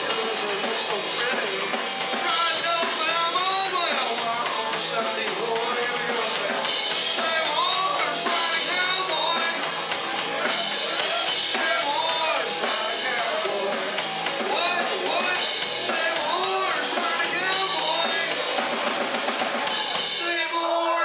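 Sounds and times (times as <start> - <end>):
country-rock band playing: 0.0 - 20.4
drum kit beat: 0.0 - 20.4.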